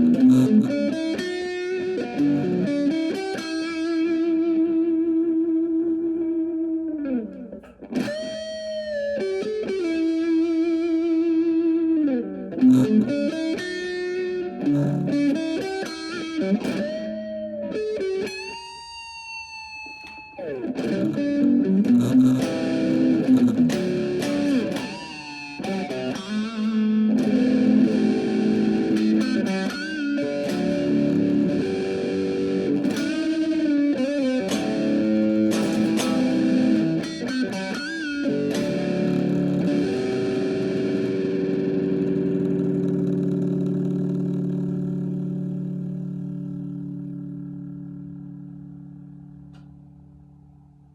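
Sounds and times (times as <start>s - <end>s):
guitar melody with bent notes: 0.0s - 50.9s.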